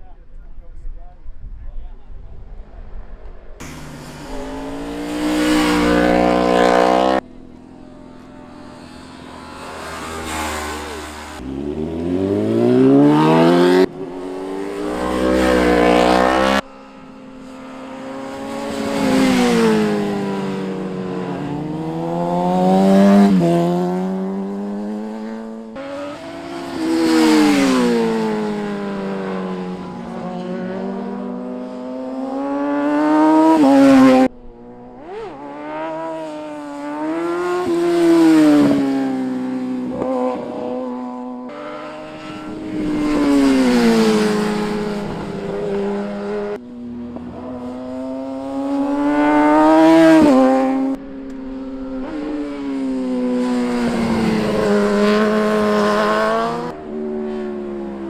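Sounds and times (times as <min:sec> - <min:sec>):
sport motorcycles revving past: 0:03.6 - 0:58.0.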